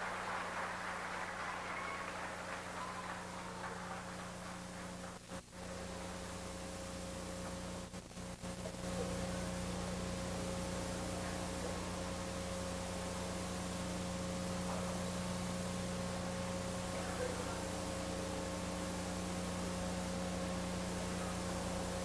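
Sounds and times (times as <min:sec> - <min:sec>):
constant hiss: 0:00.0 - 0:22.0
electrical mains hum: 0:00.0 - 0:22.0.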